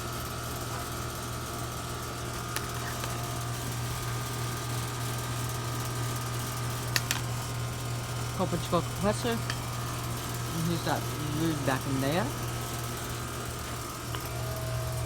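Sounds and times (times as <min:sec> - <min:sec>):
air conditioner compressor hum: 0:00.0 - 0:15.0
condenser fan noise: 0:00.0 - 0:15.0.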